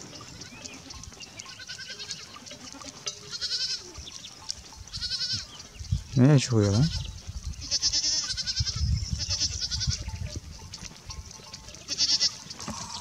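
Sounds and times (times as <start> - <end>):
goats bleating: 0.0 - 5.7, 6.6 - 13.0.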